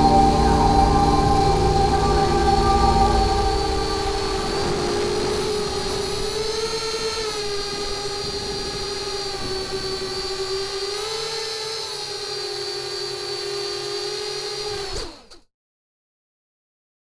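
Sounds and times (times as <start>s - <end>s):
drone motors whining: 0.0s - 15.4s.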